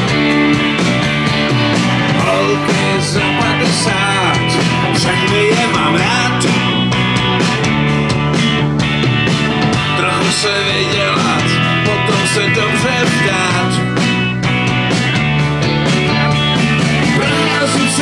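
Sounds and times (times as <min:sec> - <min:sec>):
drums: 0:00.0 - 0:18.0
electric guitar: 0:00.0 - 0:18.0.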